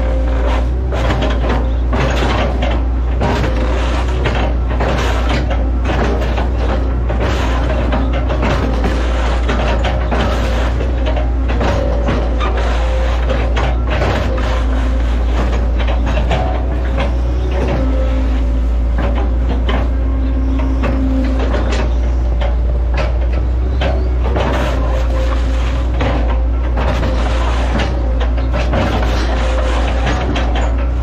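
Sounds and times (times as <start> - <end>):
excavator diesel engine droning: 0.0 - 31.0
machine knocks and clanks: 0.0 - 31.0.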